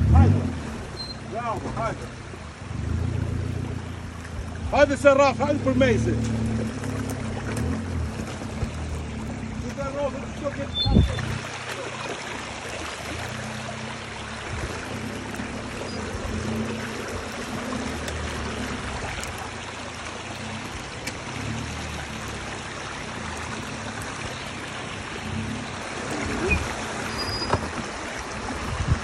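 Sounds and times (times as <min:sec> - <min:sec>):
engine revving under load: 0:00.0 - 0:27.8.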